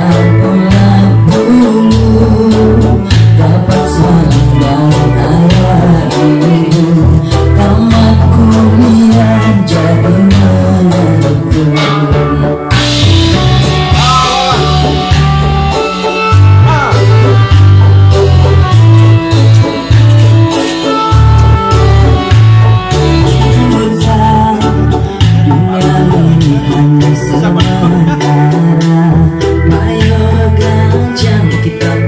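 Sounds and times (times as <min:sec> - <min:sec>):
person singing: 0:00.0 - 0:32.0
pop music with drums: 0:00.0 - 0:32.0.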